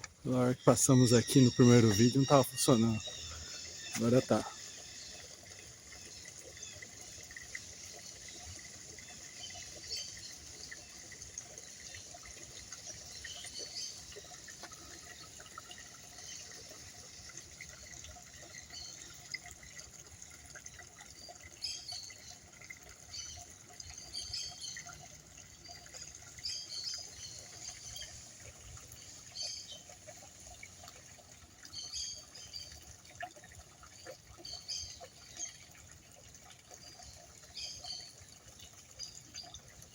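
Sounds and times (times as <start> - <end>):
trickling water feature: 0.0 - 39.9.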